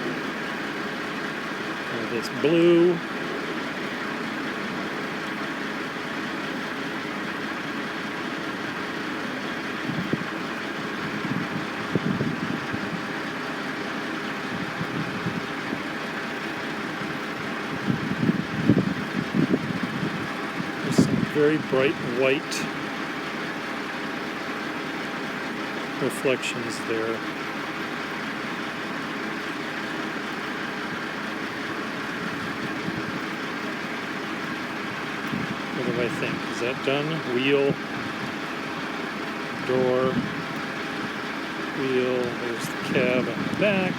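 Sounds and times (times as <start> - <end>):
heavy machinery engines idling: 0.0 - 43.9.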